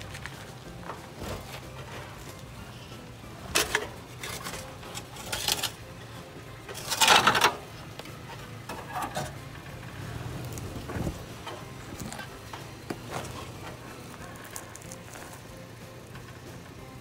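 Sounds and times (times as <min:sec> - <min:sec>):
engine running low: 0:00.0 - 0:17.0
tyres crunching over rocks and gravel: 0:00.0 - 0:17.0.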